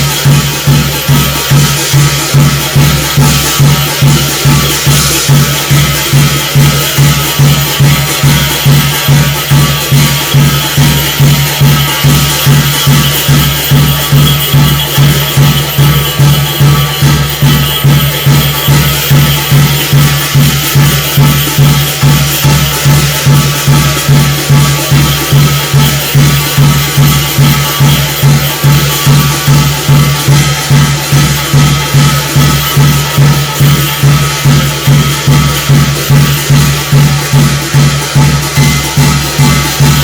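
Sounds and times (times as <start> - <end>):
drum steady beat: 0.0 - 40.0
rattling jangling percussion: 0.0 - 40.0.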